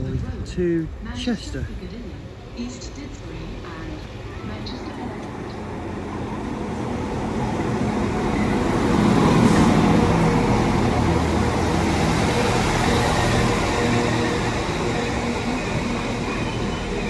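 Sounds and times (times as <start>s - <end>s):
train arriving: 0.0s - 17.0s.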